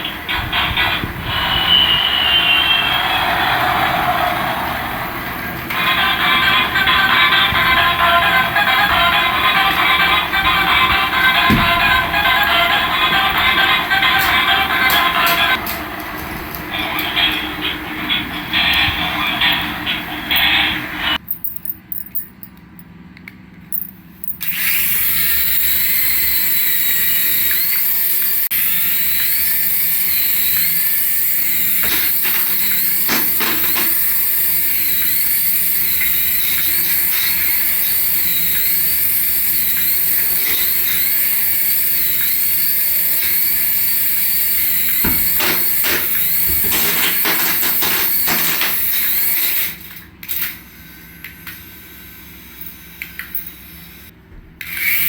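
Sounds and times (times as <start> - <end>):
toy electric motor whining: 0.0 - 21.2, 24.2 - 55.0.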